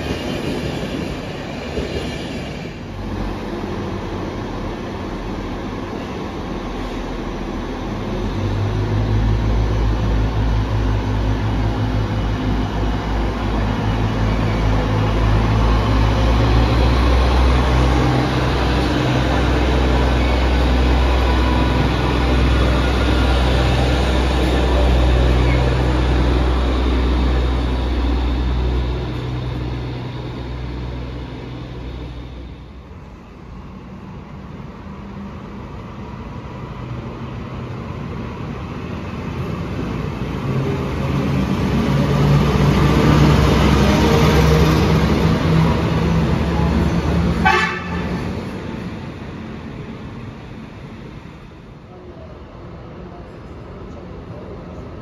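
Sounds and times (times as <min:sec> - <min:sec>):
approaching locomotive: 0:00.0 - 0:55.0
diesel train engine drone: 0:00.0 - 0:55.0.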